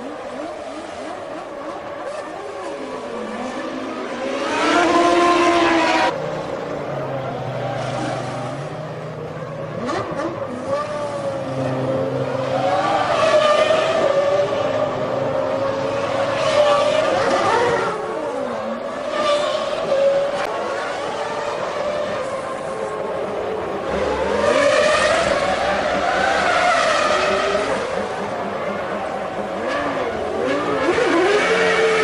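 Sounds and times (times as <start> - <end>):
racing car engines: 0.0 - 32.0.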